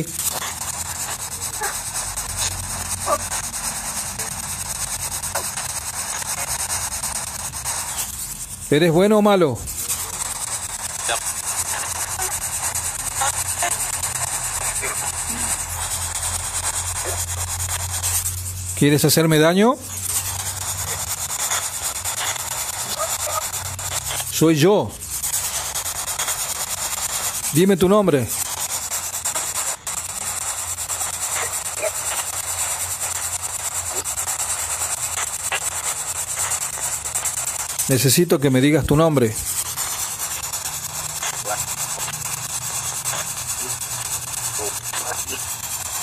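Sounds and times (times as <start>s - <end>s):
chopped radio static: 0.0s - 46.0s.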